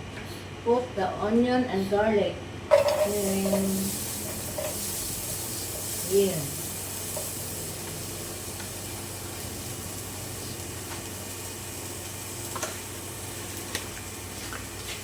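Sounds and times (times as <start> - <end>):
onion and garlic sizzling in oil: 2.7 - 15.0.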